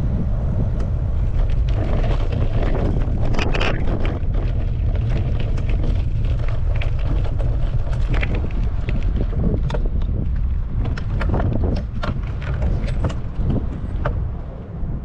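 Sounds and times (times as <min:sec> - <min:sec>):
wind buffeting microphone: 0:00.0 - 0:15.0
bicycle clicks and rattles: 0:01.3 - 0:14.3.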